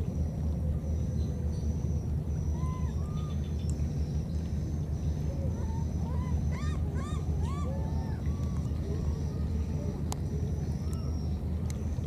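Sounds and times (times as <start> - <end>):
faint high whine: 0.0 - 12.0
steady low rumble: 0.0 - 12.0.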